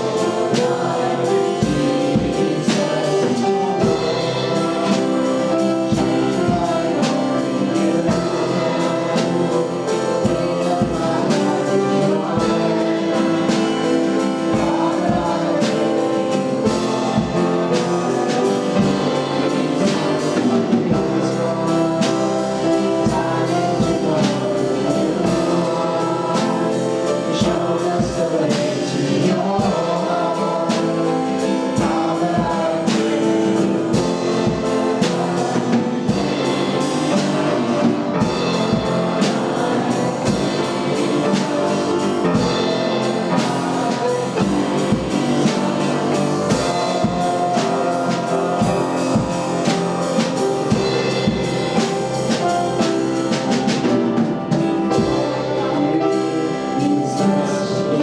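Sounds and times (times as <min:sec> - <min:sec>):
band with singers: 0:00.0 - 0:58.0
steady drum beat: 0:00.0 - 0:58.0.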